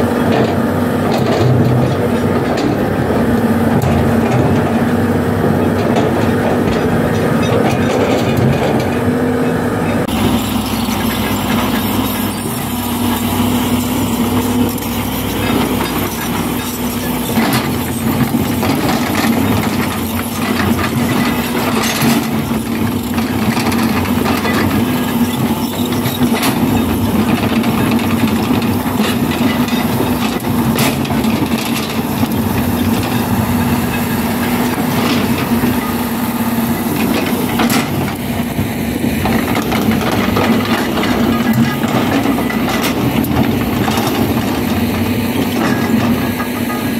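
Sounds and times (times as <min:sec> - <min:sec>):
excavator diesel engine hum: 0:00.0 - 0:46.9.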